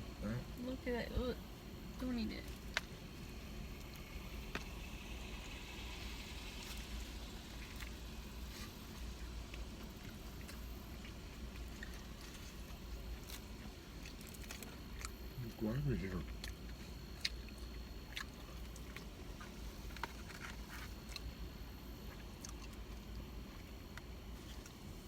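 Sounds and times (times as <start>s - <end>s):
faint eating sounds: 0.0s - 25.0s
low hum: 0.0s - 25.0s.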